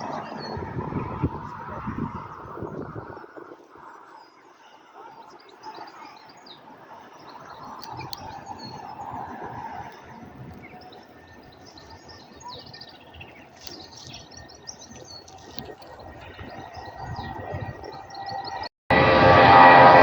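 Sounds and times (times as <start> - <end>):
small birds chirping: 0.0 - 18.7
aircraft engine noise: 0.0 - 20.0.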